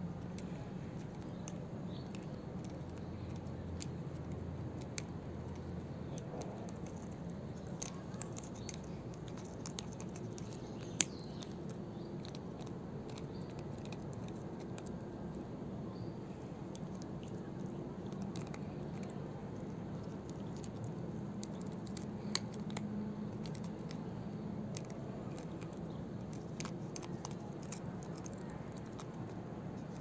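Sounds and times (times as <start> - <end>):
low steady hum: 0.0 - 30.0
teeth clicking on plastic: 0.0 - 30.0.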